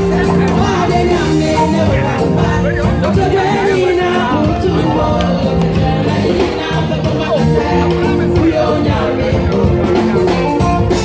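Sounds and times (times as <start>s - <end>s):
bass: 0.0s - 11.0s
keyboard: 0.0s - 11.0s
choir singing: 0.4s - 10.4s.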